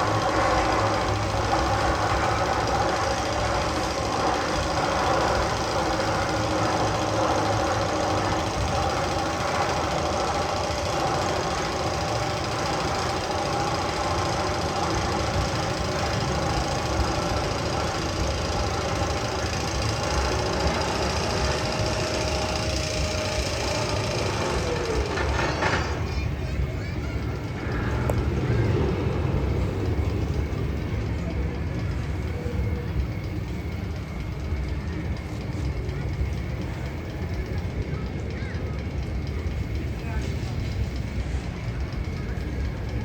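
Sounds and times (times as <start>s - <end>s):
mechanical rattle and rumble: 0.0s - 43.0s.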